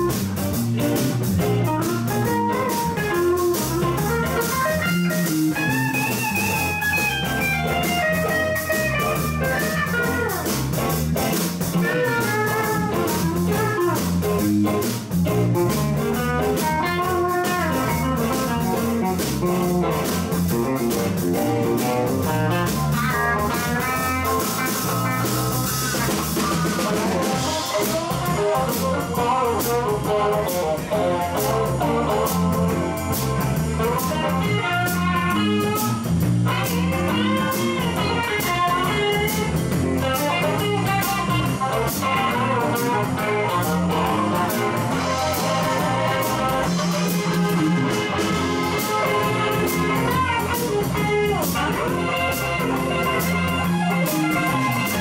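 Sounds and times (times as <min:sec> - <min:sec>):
lead guitar bending notes: 0:00.0 - 0:55.0
live blues band playing: 0:00.0 - 0:55.0.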